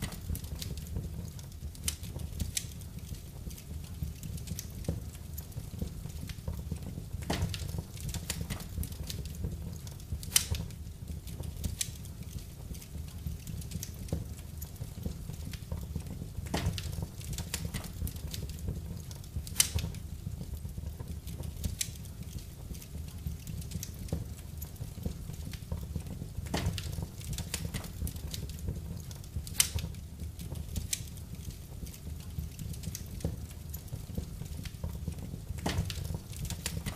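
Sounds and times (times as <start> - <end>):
fire crackling and popping: 0.0 - 36.9
wood fire rumbling: 0.0 - 36.9.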